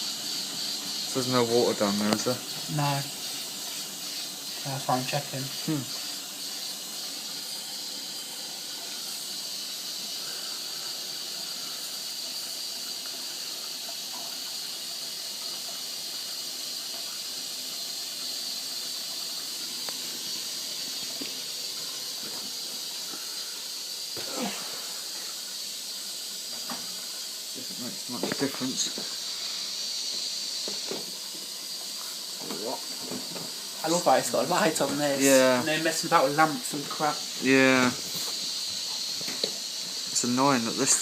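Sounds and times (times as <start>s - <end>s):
water inlet valve hissing: 0.0s - 41.0s.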